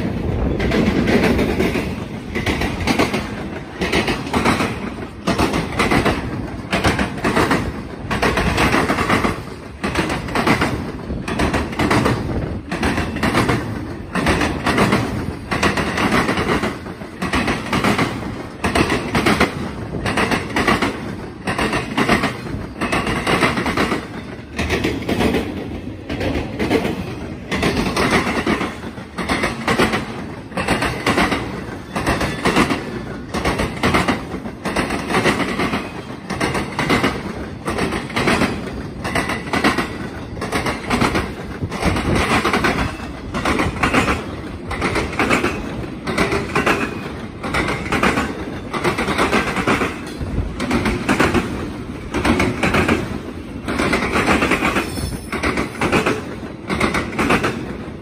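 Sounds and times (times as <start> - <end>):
steady train rumble: 0.0 - 58.0
train wheels clacking on track: 0.0 - 58.0.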